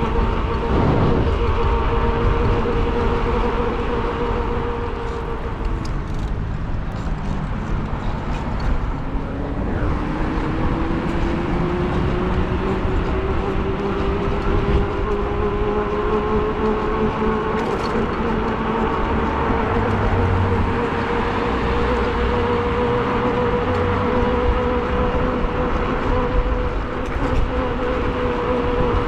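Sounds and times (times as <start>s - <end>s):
electric bike motor whining: 0.0s - 29.0s
wind and road noise: 0.0s - 29.0s.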